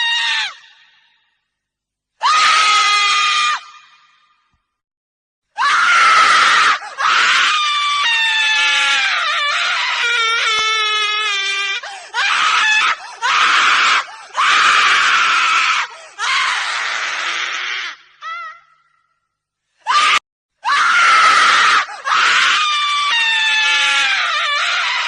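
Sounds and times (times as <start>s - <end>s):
woman screaming: 2.2s - 4.0s, 5.6s - 18.9s, 19.9s - 25.0s.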